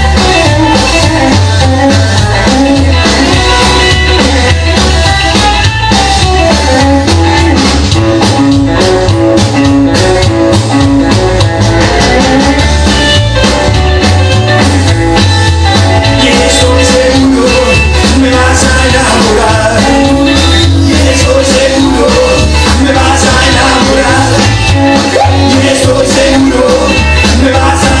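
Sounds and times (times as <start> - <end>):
rock and roll music: 0.0 - 28.0.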